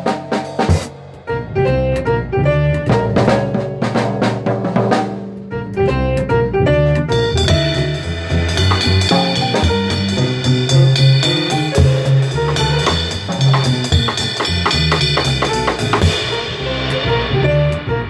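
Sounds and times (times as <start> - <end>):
drum kit played with sticks: 0.0 - 18.0
jazz backing track: 0.0 - 18.0.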